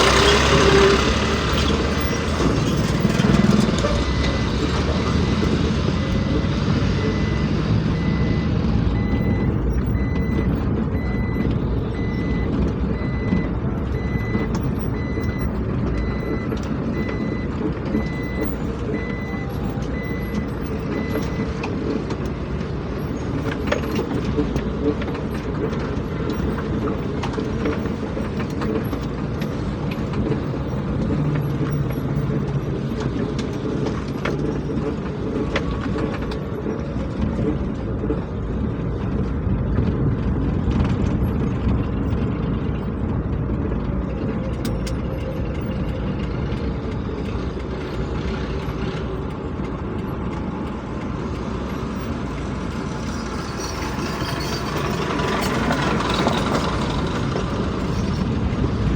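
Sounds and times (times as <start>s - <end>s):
heavy vehicle engines rumbling: 0.0s - 58.9s
faint clicks and knocks: 9.2s - 58.9s.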